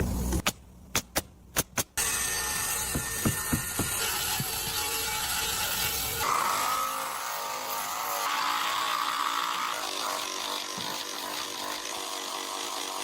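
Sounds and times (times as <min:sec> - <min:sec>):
power tool buzzing whine: 0:02.0 - 0:13.0.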